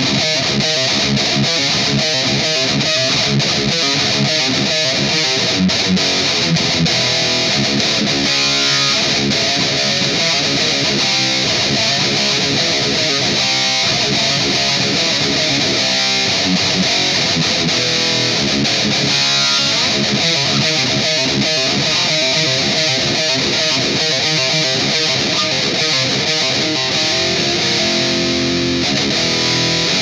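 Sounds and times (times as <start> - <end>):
distorted electric guitar riffs: 0.0 - 30.0.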